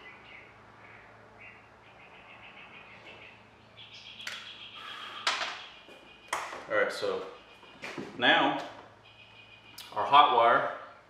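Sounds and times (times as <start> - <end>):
birds chirping trills: 0.0 - 11.0.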